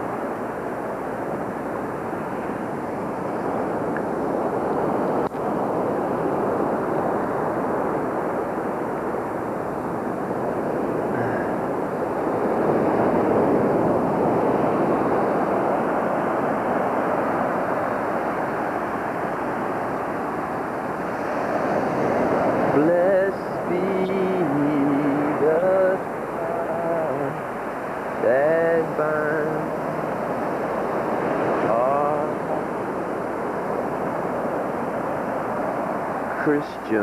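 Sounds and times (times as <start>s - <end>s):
ocean surf washing on beach: 0.0s - 37.0s.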